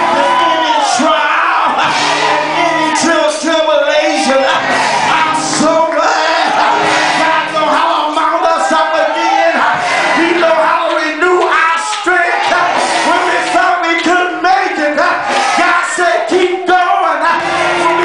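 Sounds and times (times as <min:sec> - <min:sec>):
congregation shouting: 0:00.0 - 0:18.0
organ chords: 0:00.0 - 0:18.0
man singing into microphone: 0:00.1 - 0:18.0.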